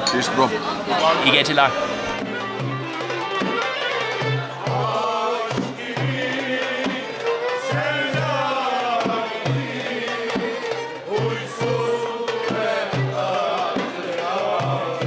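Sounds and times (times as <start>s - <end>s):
hand drum beat: 2.1s - 15.0s.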